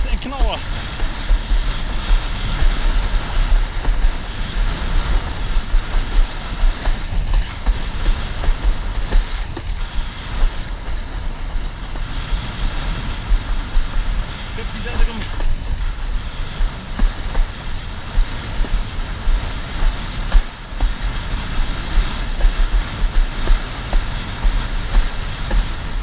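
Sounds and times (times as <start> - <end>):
choppy water splashing: 0.0 - 26.0
wind buffeting microphone: 0.0 - 26.0.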